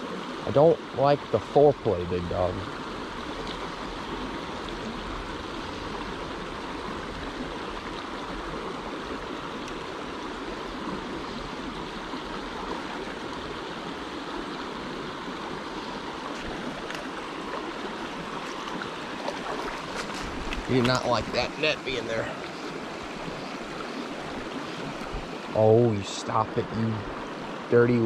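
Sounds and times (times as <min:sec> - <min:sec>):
creek water flowing over rocks: 0:00.0 - 0:28.0.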